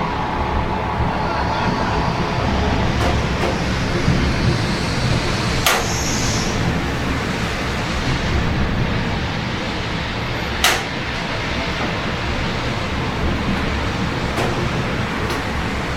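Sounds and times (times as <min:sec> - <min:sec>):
city traffic rumble: 0:00.0 - 0:15.9
steady rain: 0:00.0 - 0:15.9.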